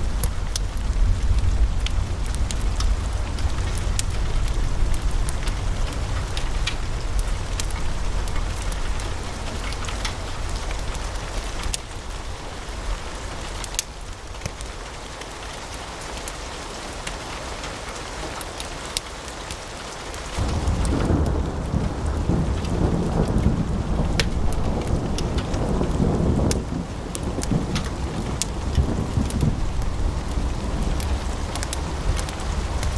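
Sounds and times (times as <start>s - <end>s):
low rush of flame: 0.0s - 14.6s, 20.4s - 32.9s
wood fire crackling: 0.0s - 32.9s.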